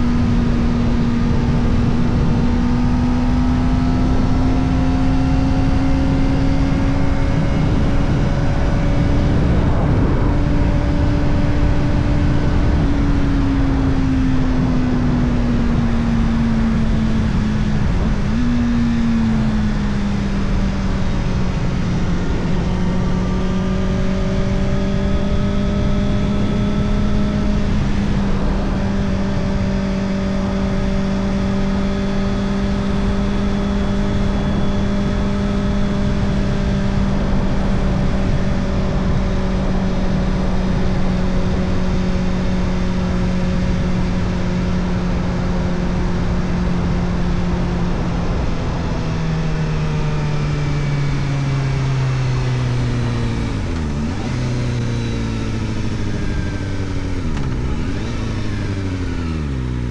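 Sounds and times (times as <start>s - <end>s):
motorcycle engine cruising: 0.0s - 59.9s
wind and road rush: 0.0s - 59.9s.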